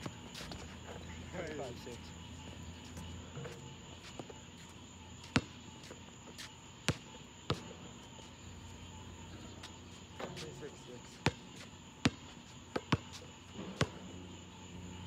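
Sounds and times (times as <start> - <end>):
basketball bouncing on asphalt: 0.0 - 1.3, 2.2 - 8.2, 8.8 - 14.7.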